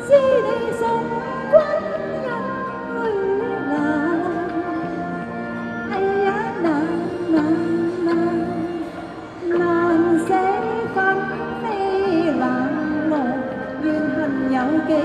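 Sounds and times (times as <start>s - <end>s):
instrumental accompaniment: 0.0s - 15.0s
woman singing into a microphone: 0.0s - 15.0s.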